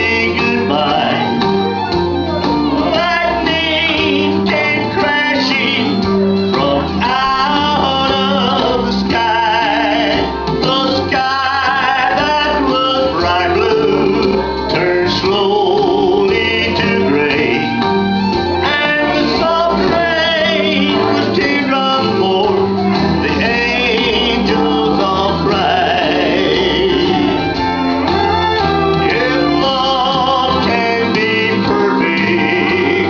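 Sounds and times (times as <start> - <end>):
man singing: 0.0 - 1.8, 2.6 - 17.9, 18.5 - 33.0
country song over pa: 0.0 - 33.0.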